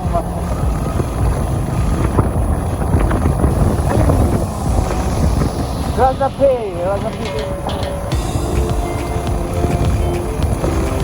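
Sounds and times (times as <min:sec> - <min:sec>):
motorcycle engine rumble: 0:00.0 - 0:11.0
wind buffeting microphone: 0:00.0 - 0:11.0.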